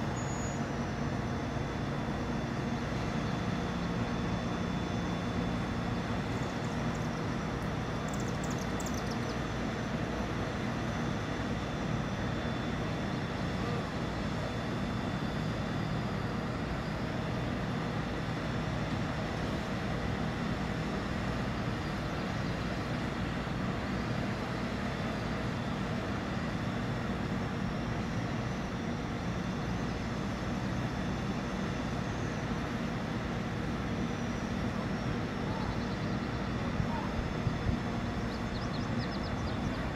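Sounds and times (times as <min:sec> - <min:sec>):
crane engine droning: 0:00.0 - 0:39.9.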